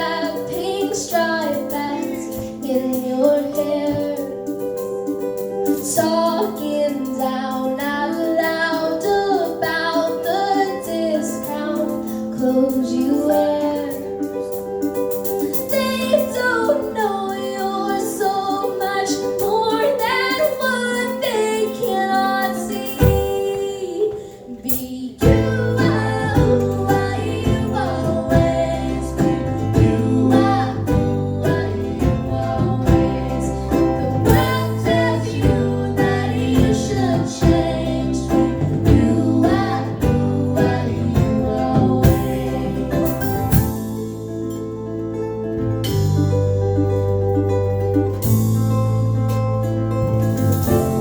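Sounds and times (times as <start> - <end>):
girl singing: 0.0 - 4.8, 5.7 - 14.5, 15.5 - 43.8
country band playing: 0.0 - 23.9, 25.2 - 51.0
plucked strings: 0.0 - 51.0.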